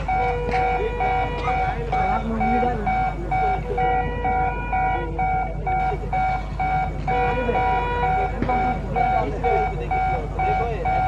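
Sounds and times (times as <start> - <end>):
electronic warning beeps: 0.0 - 11.0
faint voices: 0.0 - 11.0.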